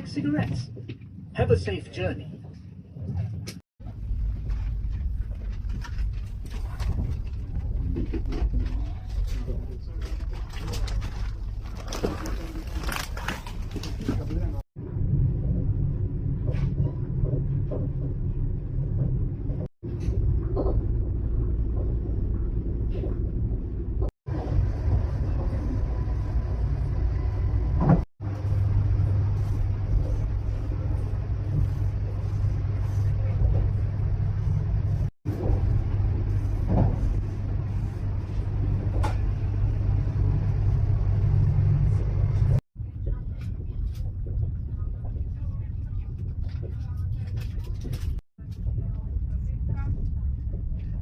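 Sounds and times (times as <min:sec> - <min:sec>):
train interior rumble: 0:00.0 - 0:12.8, 0:13.5 - 0:51.0.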